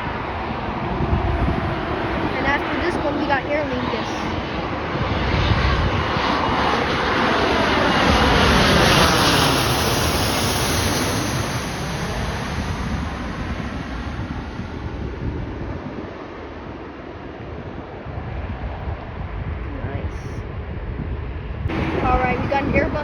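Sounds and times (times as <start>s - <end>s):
jet passing low overhead: 0.0s - 23.0s.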